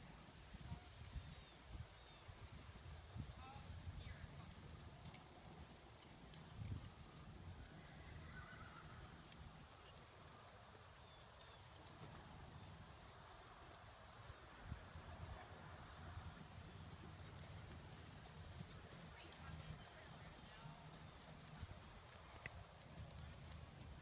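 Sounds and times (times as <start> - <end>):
high pulsing insect chorus: 0.0 - 24.0.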